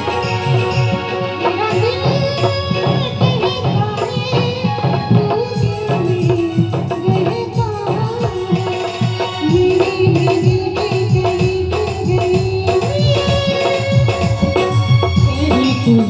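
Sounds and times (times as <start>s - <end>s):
electronic keyboard melody: 0.0s - 9.4s, 12.4s - 16.0s
tabla-style drum beat: 0.0s - 16.0s.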